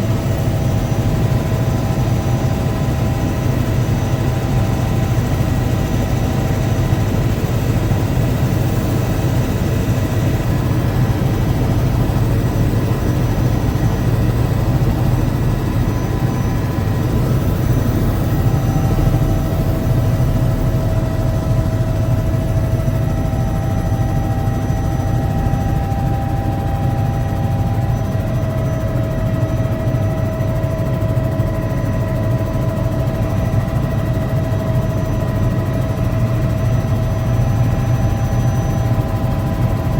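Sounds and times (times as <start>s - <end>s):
faint steady whining tones: 0.0s - 39.9s
helicopter engine and rotor drone: 0.0s - 39.9s.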